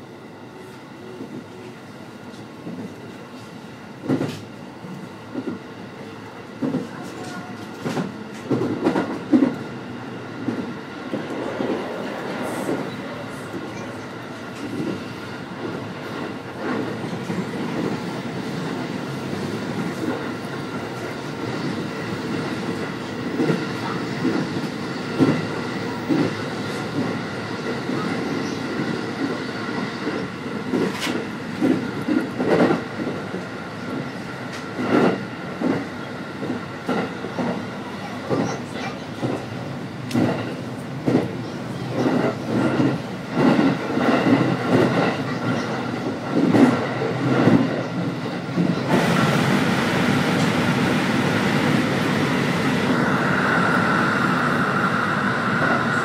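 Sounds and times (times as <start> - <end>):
train running rumble: 0.2 - 56.0.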